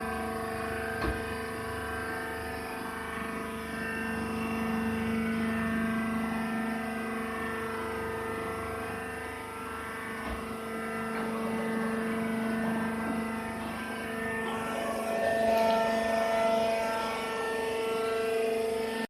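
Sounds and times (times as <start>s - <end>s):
baler machine drone: 0.0s - 19.0s.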